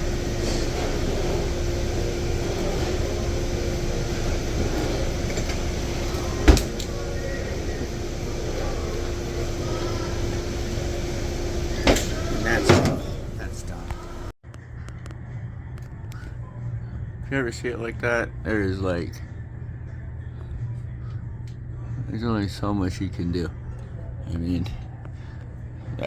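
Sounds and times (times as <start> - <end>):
hvac hum and rumble: 0.0 - 26.0.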